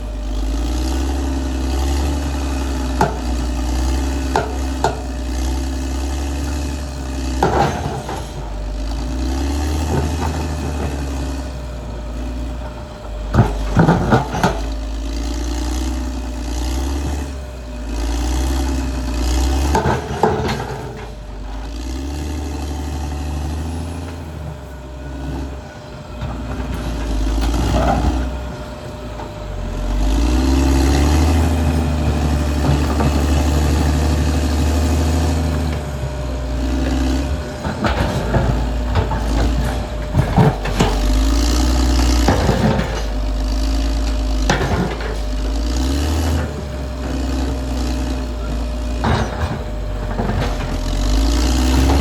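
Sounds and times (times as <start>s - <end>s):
bulldozer diesel engine: 0.0s - 52.0s.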